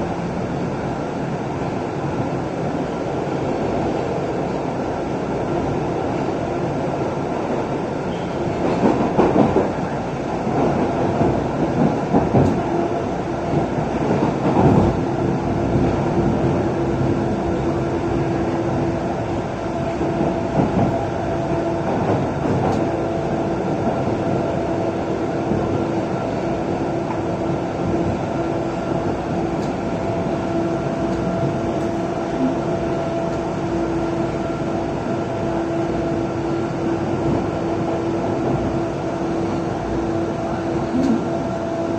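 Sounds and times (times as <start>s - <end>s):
subway train rumbling on rails: 0.0s - 41.9s.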